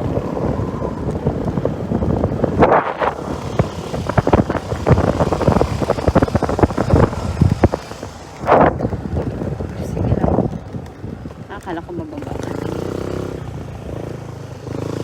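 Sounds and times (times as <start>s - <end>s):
small motorcycle rumble: 0.0s - 15.0s
wind buffeting microphone: 0.0s - 15.0s.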